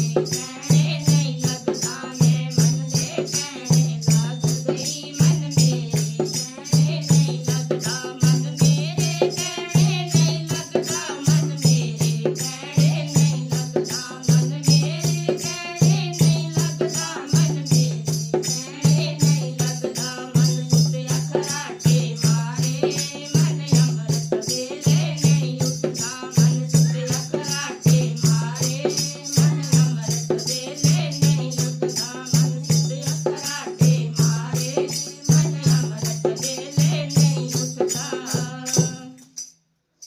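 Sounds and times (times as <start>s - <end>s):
jingling hand percussion: 0.0s - 40.0s.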